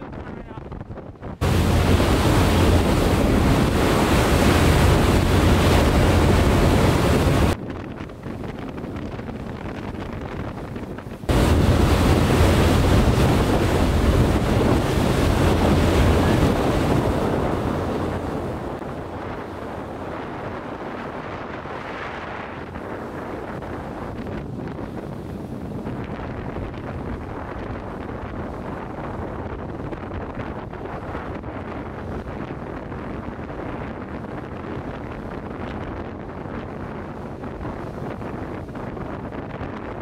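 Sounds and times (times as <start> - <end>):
water rushing along boat hull: 0.0 - 40.0
wind buffeting microphone: 0.0 - 40.0.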